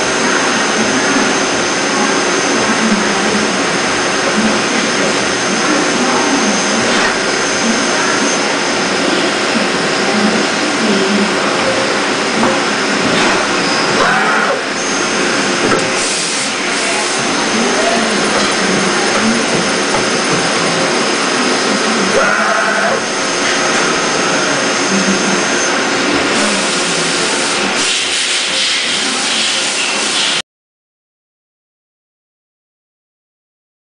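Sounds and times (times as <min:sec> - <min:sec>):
thin high whine: 0:00.0 - 0:30.3
lathe running mechanical noise: 0:00.0 - 0:30.4.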